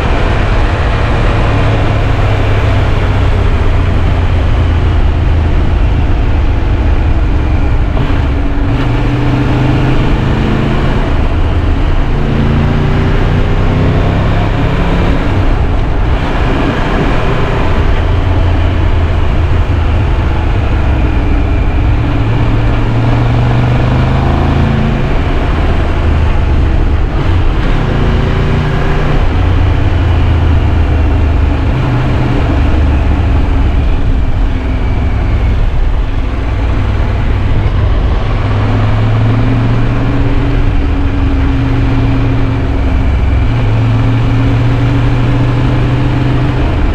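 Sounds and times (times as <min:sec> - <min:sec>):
motorcycle engine revving: 0:00.0 - 0:46.9
wind rumble on microphone: 0:00.0 - 0:46.9.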